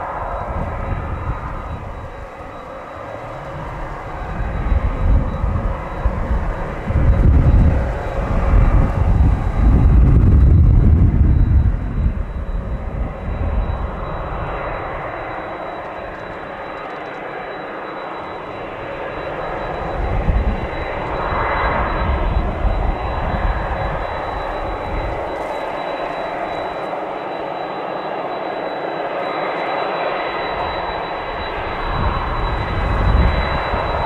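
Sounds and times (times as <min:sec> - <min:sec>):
high whine: 0:00.0 - 0:34.0
jet engines rumbling: 0:00.0 - 0:34.0.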